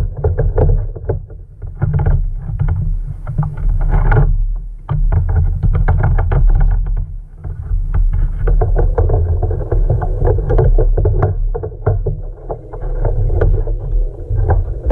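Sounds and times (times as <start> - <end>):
knocks and thumps in kayak: 0.0 - 14.9
steady low rumble: 2.2 - 14.9.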